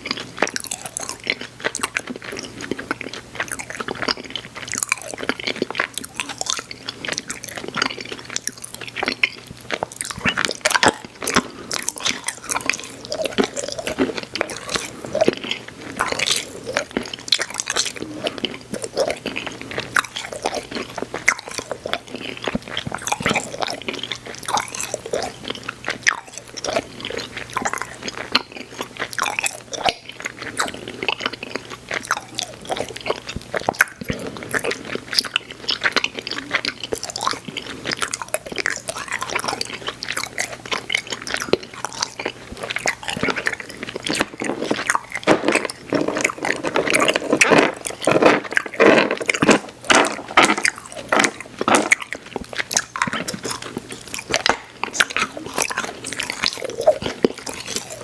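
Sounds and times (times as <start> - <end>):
chewing candy with mouth clicks: 0.0 - 58.0.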